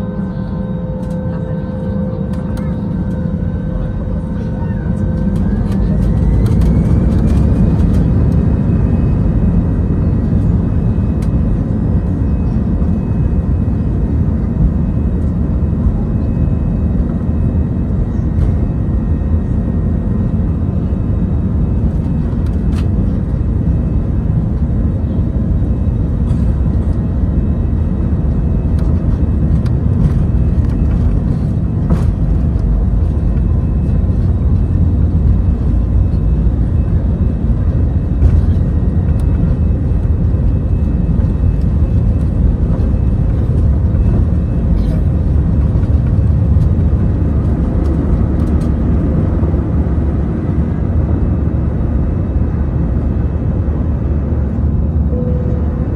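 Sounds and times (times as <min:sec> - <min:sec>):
jet engines rumbling: 0:00.0 - 0:55.9.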